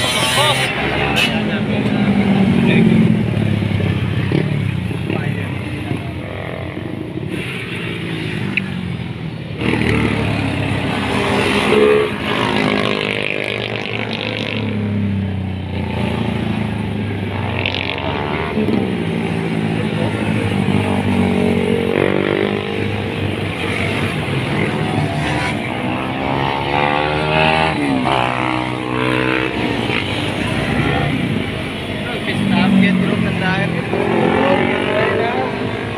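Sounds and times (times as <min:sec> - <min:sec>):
motorcycles passing at speed: 0:00.0 - 0:35.9.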